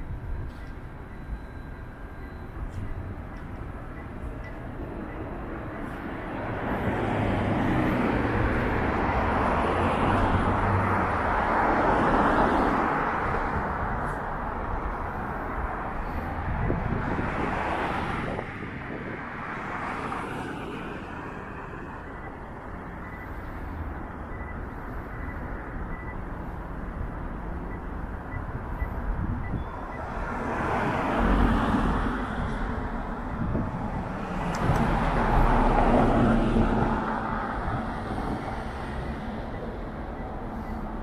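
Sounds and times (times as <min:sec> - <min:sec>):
vehicles passing: 0:00.0 - 0:41.0.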